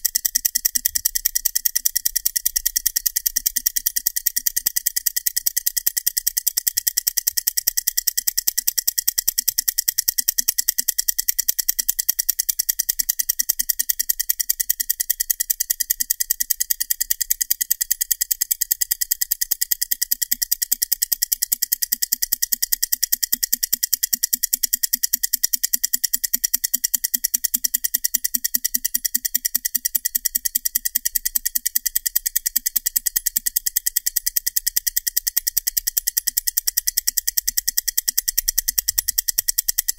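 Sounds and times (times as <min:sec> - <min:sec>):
stopwatches ticking: 0:00.0 - 0:39.9.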